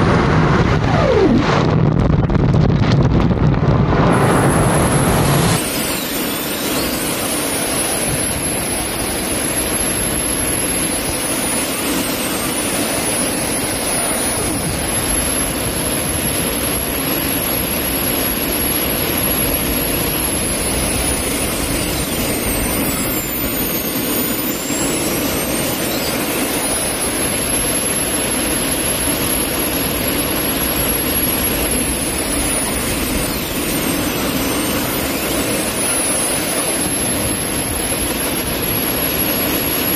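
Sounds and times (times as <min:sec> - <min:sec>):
turbojet engines roaring: 0:00.0 - 0:39.9.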